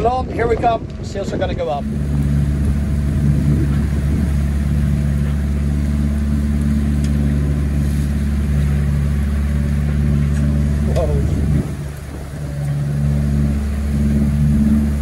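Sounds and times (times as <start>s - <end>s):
wind and water hissing: 0.0s - 15.0s
diesel engine droning: 1.6s - 15.0s.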